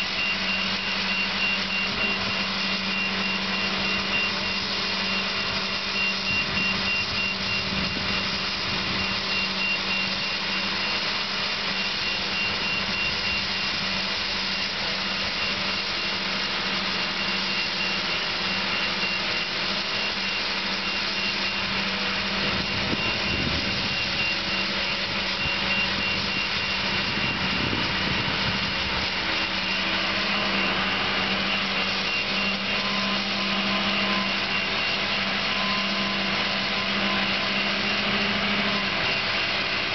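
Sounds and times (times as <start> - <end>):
crane diesel engine running: 0.0 - 39.9
thin high whine: 0.0 - 39.9.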